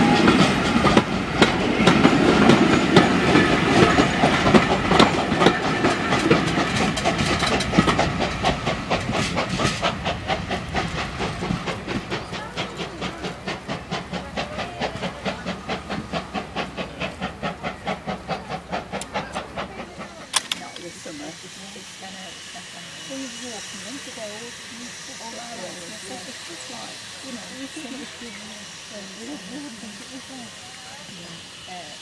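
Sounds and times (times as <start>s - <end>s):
train wheels clickety-clack: 0.0s - 32.0s.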